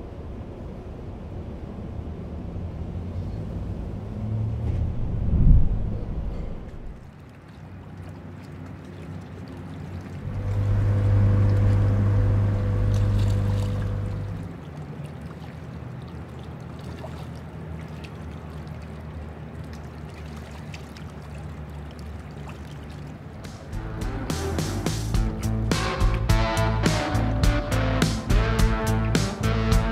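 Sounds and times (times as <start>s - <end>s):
motorboat engine hum: 0.0s - 29.9s.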